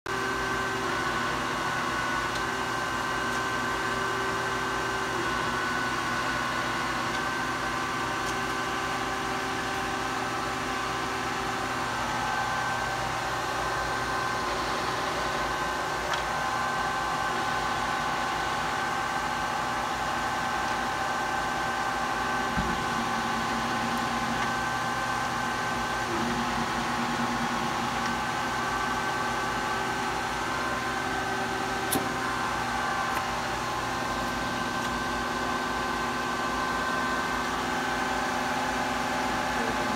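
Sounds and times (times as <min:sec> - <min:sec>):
milling machine motor and gear hum: 0:00.1 - 0:39.9.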